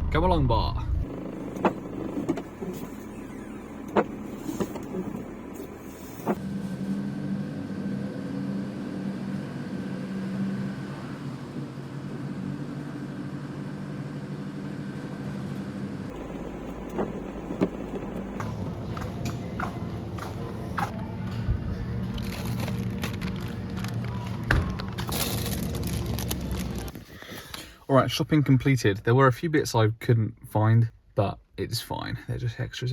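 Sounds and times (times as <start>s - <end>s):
van engine running: 0.0s - 27.0s.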